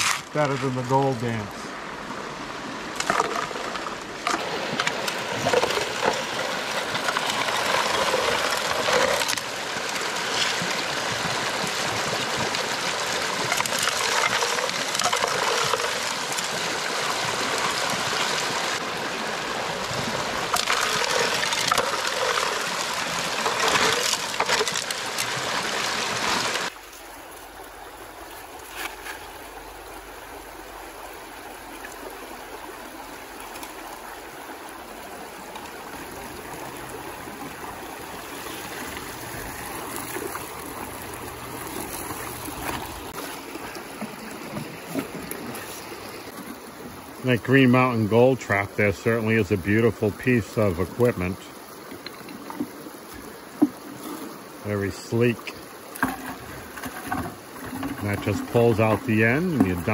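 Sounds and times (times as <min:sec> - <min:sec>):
water rushing over stones: 0:00.0 - 0:59.9.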